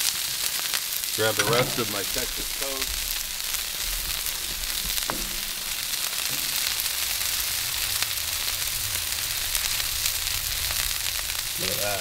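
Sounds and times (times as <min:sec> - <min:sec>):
crackles and pops: 0:00.0 - 0:12.0
food sizzling on griddle: 0:00.0 - 0:12.0.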